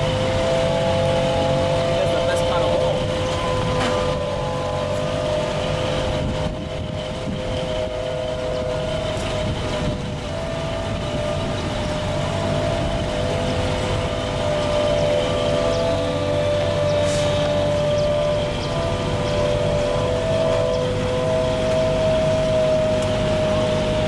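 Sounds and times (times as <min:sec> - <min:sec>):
diesel truck engine rumble: 0:00.0 - 0:24.0
high whine: 0:00.0 - 0:24.0.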